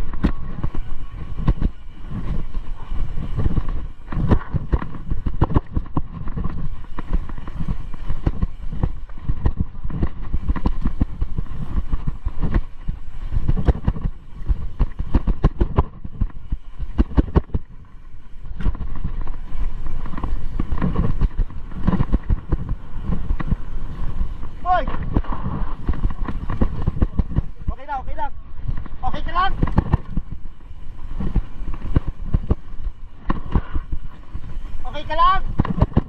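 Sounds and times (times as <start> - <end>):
bike knocking and rattling: 0.0 - 36.0
tyres rolling over loose dirt: 0.0 - 36.0.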